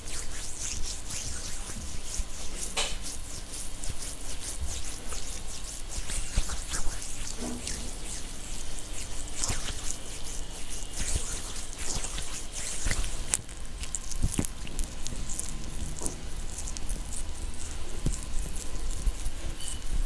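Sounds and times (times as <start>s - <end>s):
soft crackly rustling: 0.0s - 20.0s.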